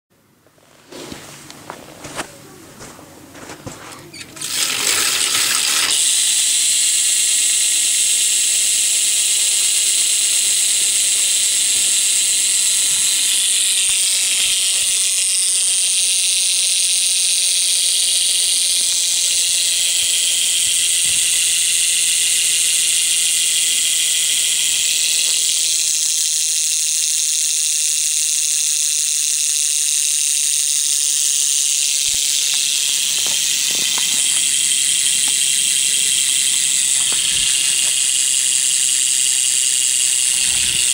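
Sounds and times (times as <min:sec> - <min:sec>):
bicycle hub ratcheting buzz: 0:04.1 - 0:40.9.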